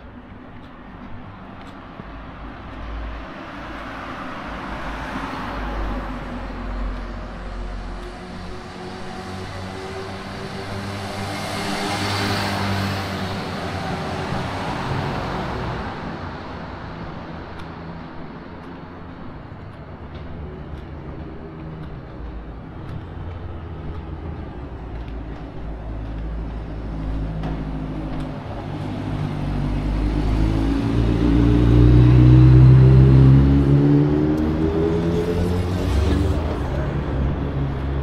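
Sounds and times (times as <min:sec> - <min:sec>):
vehicles passing on street: 0:00.0 - 0:38.0.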